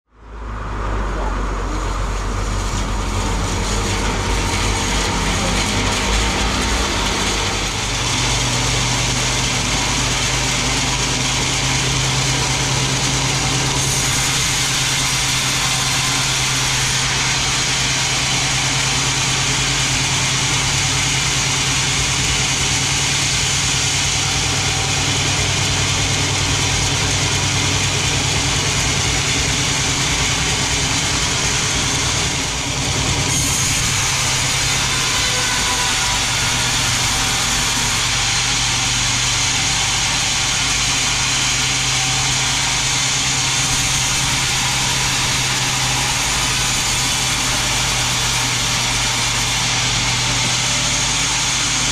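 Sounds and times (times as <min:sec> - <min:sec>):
band saw machinery running: 0:00.1 - 0:51.9.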